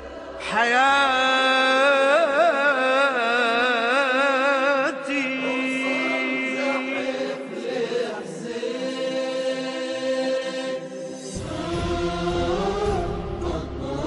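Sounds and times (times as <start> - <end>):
choir chanting long notes: 0.0 - 14.0.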